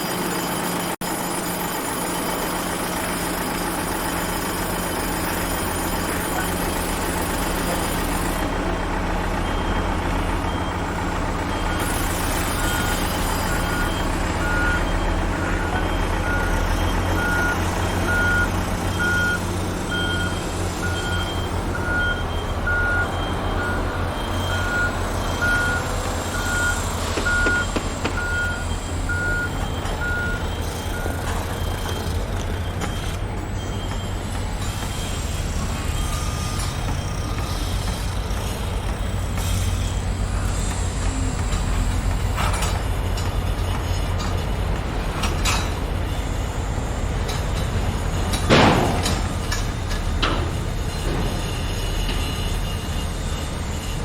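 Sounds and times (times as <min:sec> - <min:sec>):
reversing alarm beeping: 0:00.0 - 0:44.5, 0:45.1 - 0:54.0
construction vehicle engine rumbling: 0:00.0 - 0:54.0.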